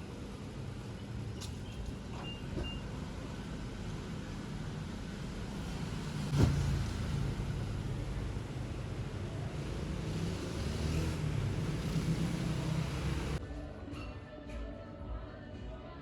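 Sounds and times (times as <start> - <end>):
car rumble and road noise: 0.2 - 13.4.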